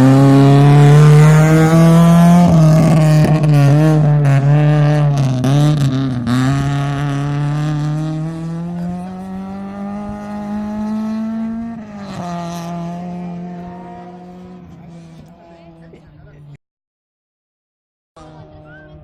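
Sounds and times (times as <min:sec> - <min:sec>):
rally car engine at full throttle: 0:00.0 - 0:16.6, 0:18.2 - 0:19.0.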